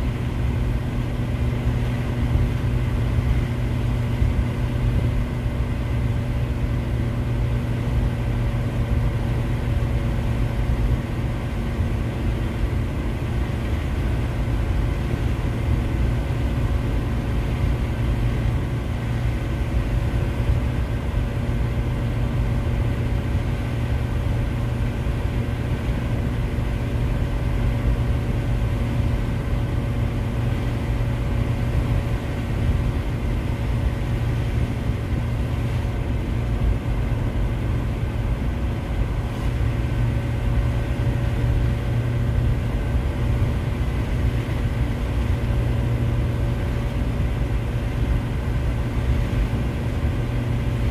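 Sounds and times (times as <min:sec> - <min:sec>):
road and engine noise inside van: 0:00.0 - 0:50.9.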